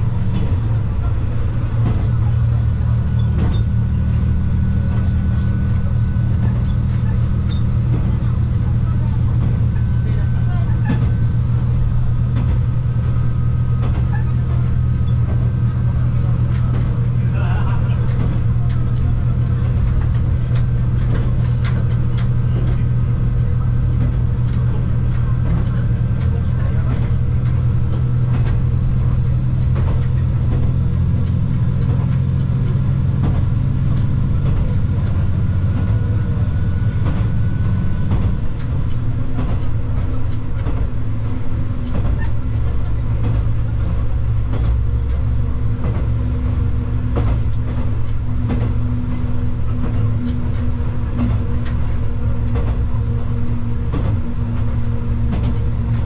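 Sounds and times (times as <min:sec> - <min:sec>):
diesel engine drone: 0:00.0 - 0:56.0
wheels clicking on track: 0:00.0 - 0:56.0.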